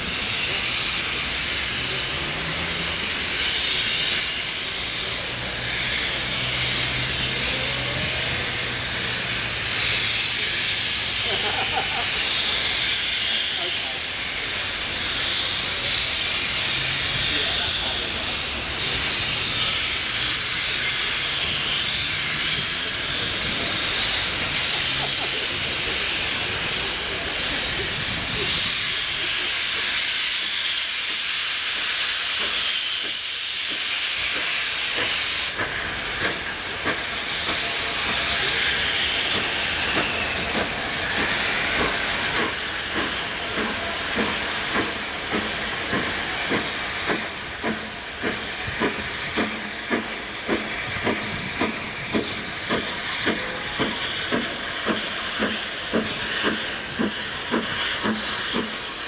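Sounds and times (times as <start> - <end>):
hiss of escaping steam: 0.0 - 59.0
steam locomotive exhaust chuffs: 0.0 - 59.0.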